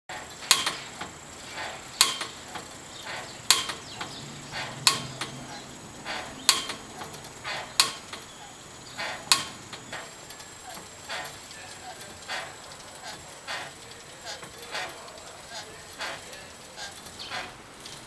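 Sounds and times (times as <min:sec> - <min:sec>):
pedicab rolling: 0:00.1 - 0:18.0
faint knocks: 0:00.5 - 0:15.2.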